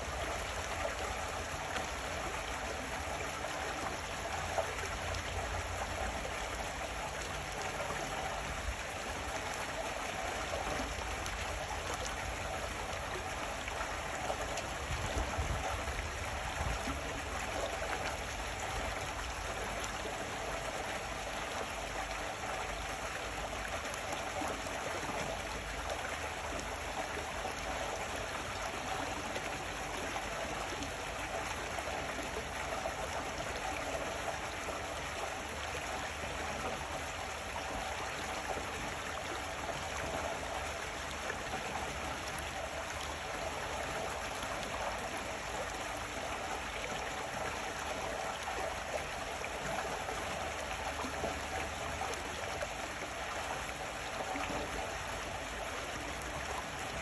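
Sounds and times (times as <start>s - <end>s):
stream water rushing over rock: 0.0s - 57.0s.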